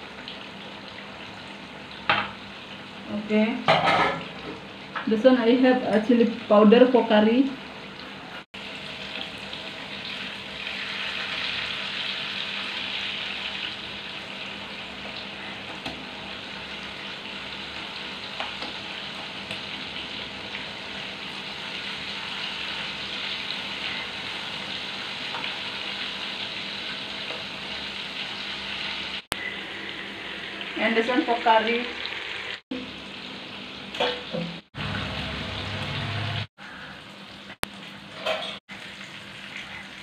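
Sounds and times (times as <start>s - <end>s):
fish frying in oil: 0.0s - 40.0s.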